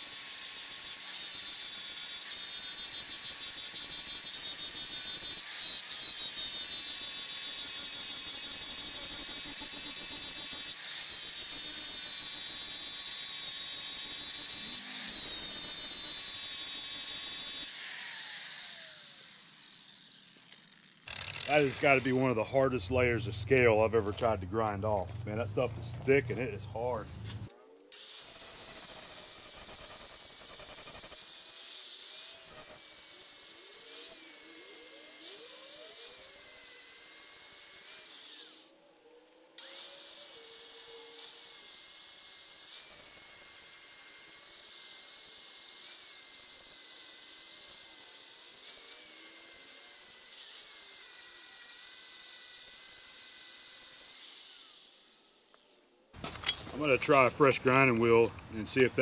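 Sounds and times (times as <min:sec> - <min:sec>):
angle grinder grinding steel: 0:00.0 - 0:59.0.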